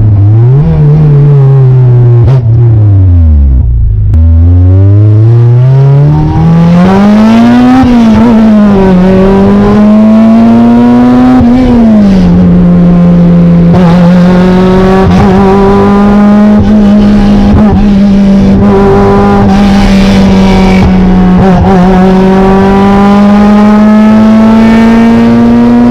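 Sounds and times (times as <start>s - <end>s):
loud car engine revving: 0.0s - 25.9s.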